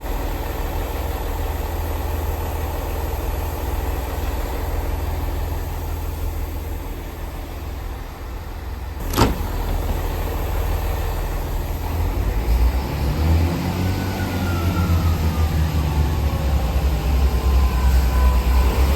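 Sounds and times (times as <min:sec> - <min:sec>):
diesel train engine rumbling: 0:00.0 - 0:18.9.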